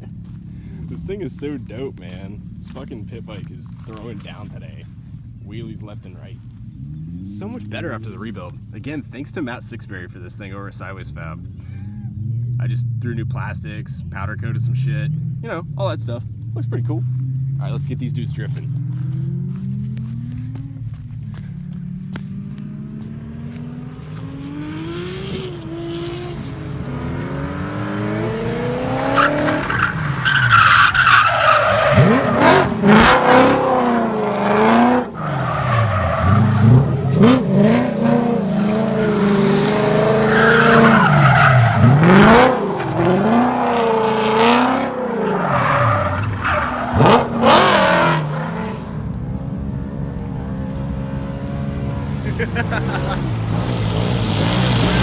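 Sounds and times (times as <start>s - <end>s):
car engine revving hard: 0.0s - 9.6s, 10.4s - 55.0s.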